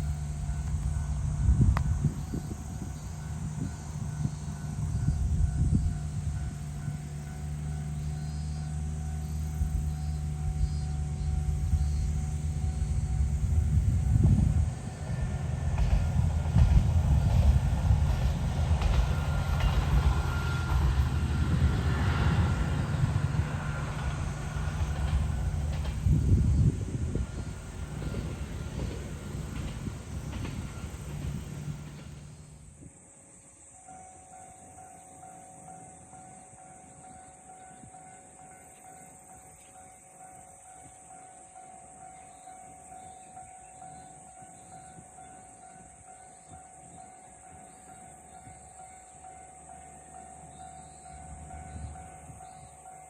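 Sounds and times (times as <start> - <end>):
level-crossing warning bell ringing: 0.0 - 32.6, 33.8 - 53.0
train rumbling past: 0.0 - 53.0.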